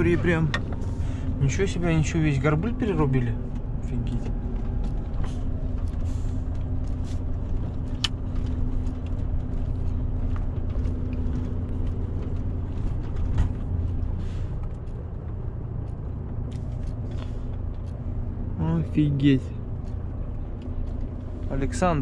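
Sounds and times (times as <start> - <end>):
diesel truck engine rumbling: 0.0 - 22.0.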